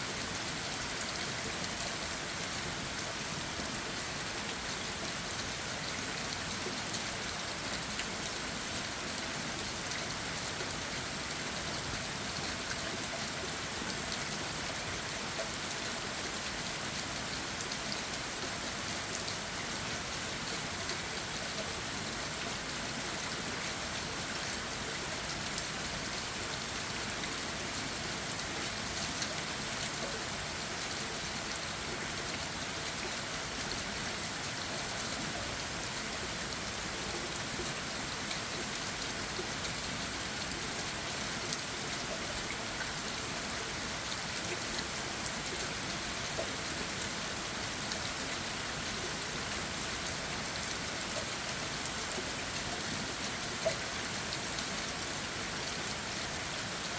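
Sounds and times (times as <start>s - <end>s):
rain falling on leaves: 0.0s - 56.9s.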